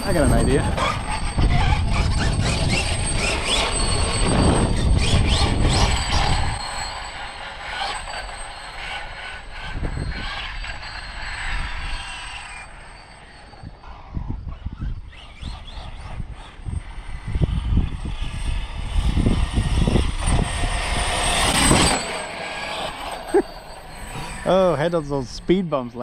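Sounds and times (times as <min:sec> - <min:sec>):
rc truck motor whine: 0:00.0 - 0:26.0.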